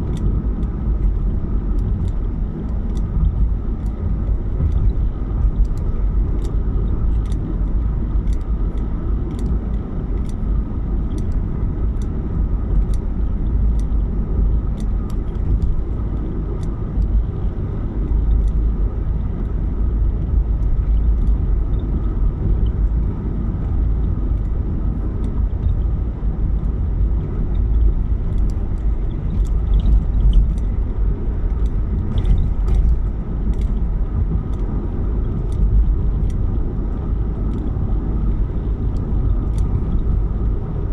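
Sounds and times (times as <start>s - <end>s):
car driving low rumble: 0.0s - 40.9s.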